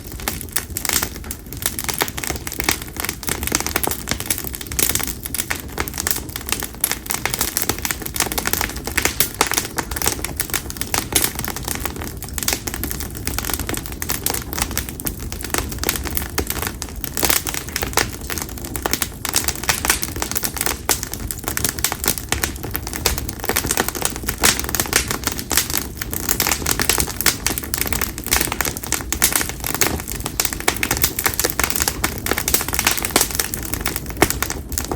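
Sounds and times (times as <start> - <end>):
campfire crackling and popping: 0.0 - 34.9
low rush of flame: 0.0 - 34.9.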